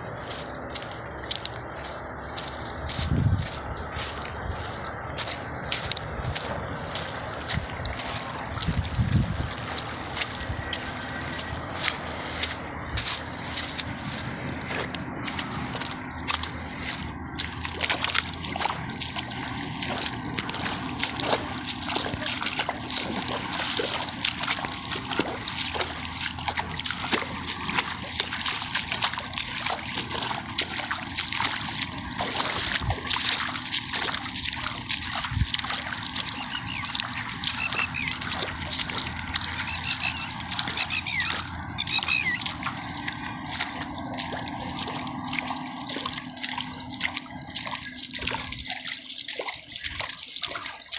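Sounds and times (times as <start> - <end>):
river water flowing and splashing: 0.0 - 50.9.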